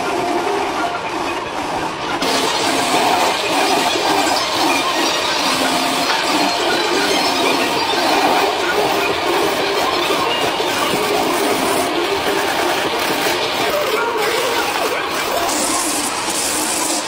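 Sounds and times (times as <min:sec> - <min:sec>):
grinding wheel on rubber: 0:02.2 - 0:17.0.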